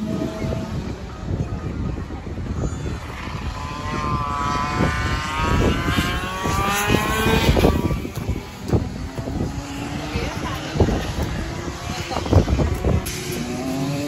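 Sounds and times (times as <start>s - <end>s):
go-kart engine passing: 0.0s - 14.0s
wind on microphone: 0.0s - 14.0s.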